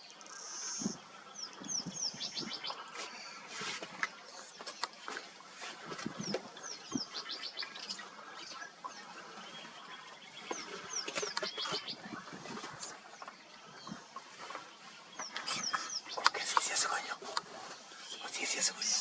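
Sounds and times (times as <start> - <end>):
faint outdoor background: 0.0 - 19.0
wild birds chirping: 0.0 - 19.0.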